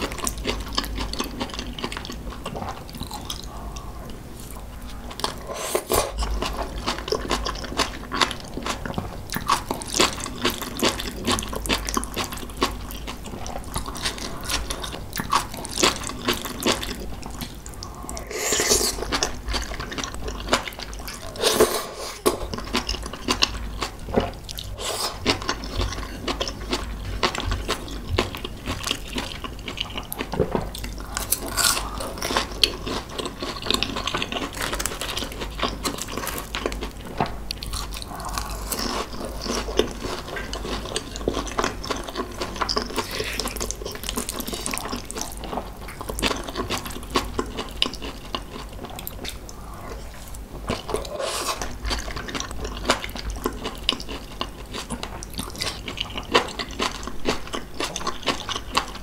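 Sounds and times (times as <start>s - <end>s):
wet chewing and mouth sounds: 0.0s - 59.0s.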